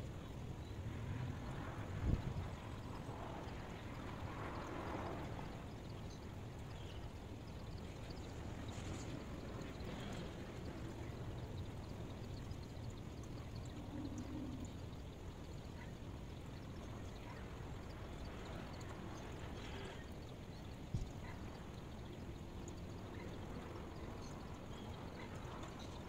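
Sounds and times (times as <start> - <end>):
faint ticks: 0.6 - 26.0.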